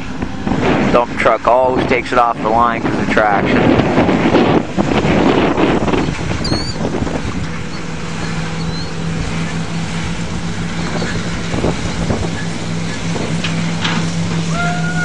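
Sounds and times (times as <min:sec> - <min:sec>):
distant vehicle engines droning: 0:00.0 - 0:15.0
wind noise on microphone: 0:00.0 - 0:15.0.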